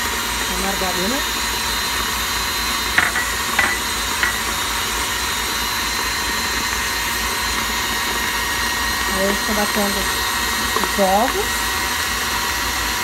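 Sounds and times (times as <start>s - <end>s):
stand mixer whisking batter: 0.0s - 13.0s.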